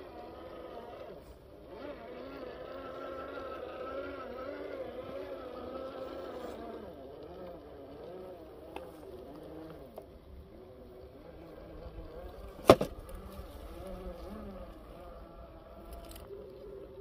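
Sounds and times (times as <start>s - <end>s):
rc car motor whining: 0.0s - 17.0s.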